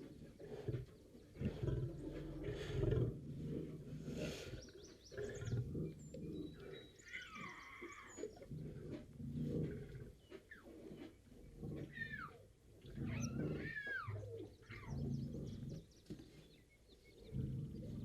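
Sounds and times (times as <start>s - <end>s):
lion roaring and growling: 0.0s - 15.8s.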